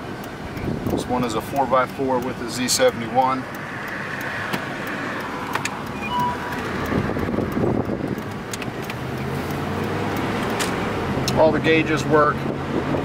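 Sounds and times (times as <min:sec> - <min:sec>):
engine running steadily: 0:00.0 - 0:13.0
road and wind noise: 0:00.0 - 0:13.0.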